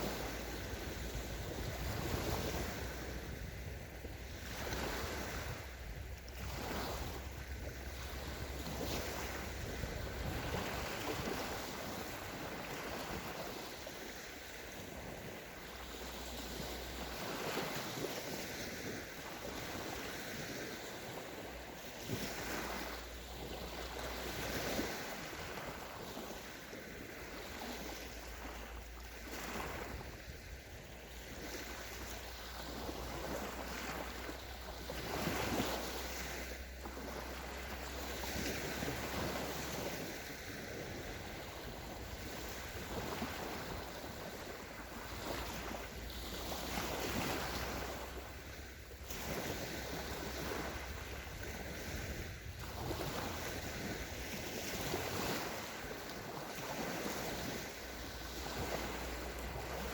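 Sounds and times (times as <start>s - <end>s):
small waves breaking on shore: 0.0s - 59.9s
wind rumble on microphone: 0.0s - 59.9s.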